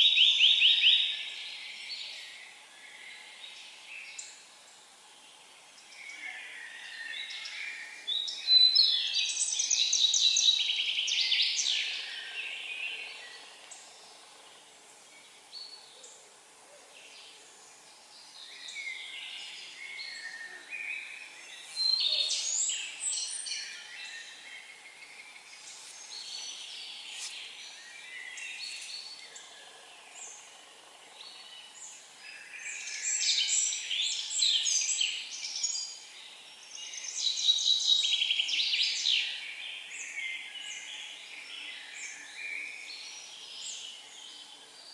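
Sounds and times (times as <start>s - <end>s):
songbird singing rapid chirps: 0.0s - 44.9s.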